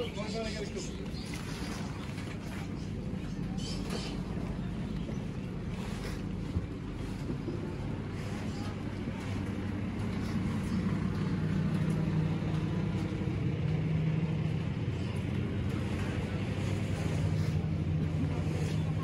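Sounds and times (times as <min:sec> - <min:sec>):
city street noise: 0:00.0 - 0:19.0
low engine drone: 0:00.0 - 0:19.0.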